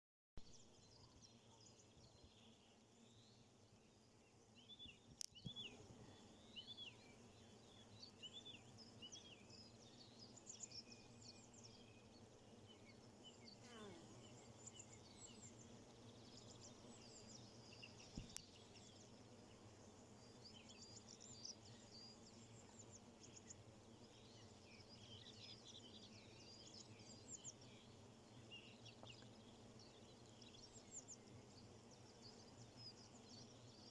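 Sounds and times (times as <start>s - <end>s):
small birds chirping: 0.6s - 33.9s.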